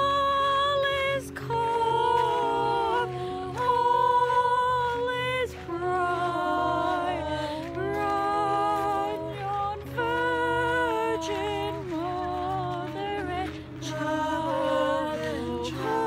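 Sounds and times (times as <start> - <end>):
voices singing in harmony: 0.0 - 16.0.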